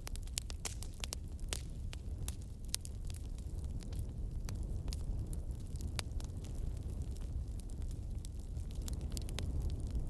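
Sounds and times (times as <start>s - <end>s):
fire crackling and popping: 0.0s - 10.0s
low rumble of flames: 0.0s - 10.0s.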